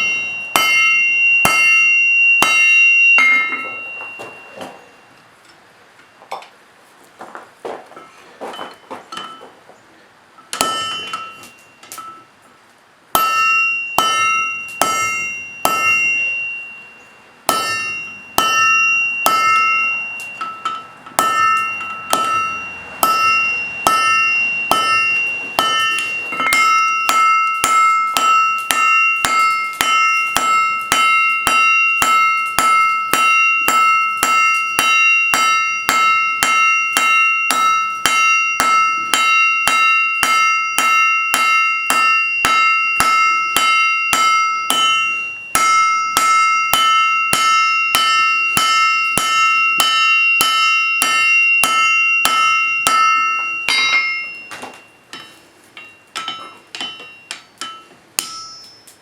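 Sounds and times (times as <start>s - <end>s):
hammer striking an anvil: 0.0s - 5.1s, 10.4s - 12.3s, 13.1s - 59.0s.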